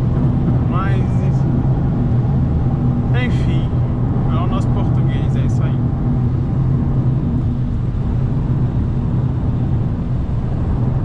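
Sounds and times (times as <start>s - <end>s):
car engine hum: 0.0s - 11.0s
road and tyre noise: 0.0s - 11.0s.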